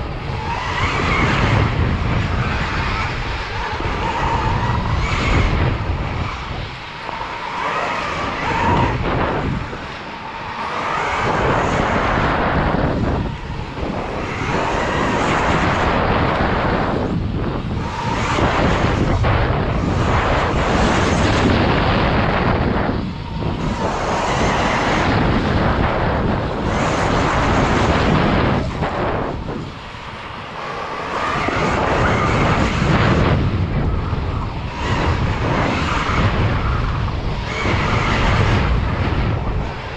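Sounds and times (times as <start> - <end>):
faint steady whine: 0.0 - 39.9
wind buffeting microphone: 0.0 - 39.9.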